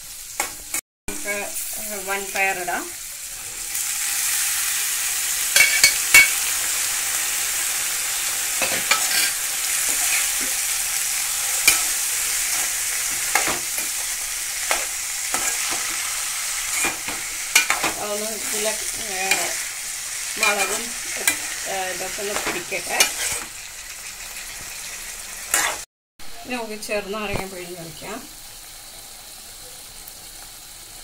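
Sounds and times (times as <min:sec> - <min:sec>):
beans sizzling in hot oil: 0:00.0 - 0:31.0.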